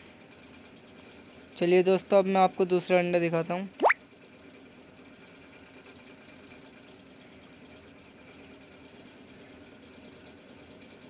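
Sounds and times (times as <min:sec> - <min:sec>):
faint small motor hum: 0:00.0 - 0:11.0.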